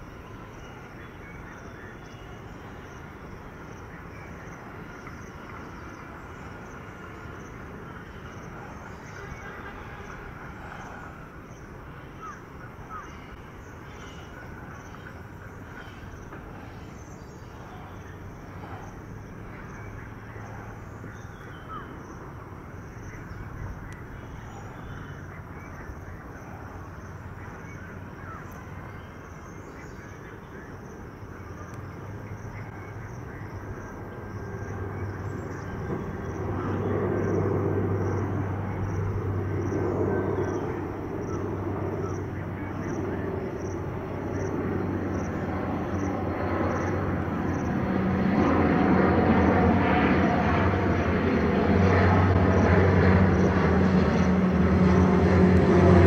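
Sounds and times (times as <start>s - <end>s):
birds calling and chirping: 0.0s - 47.0s.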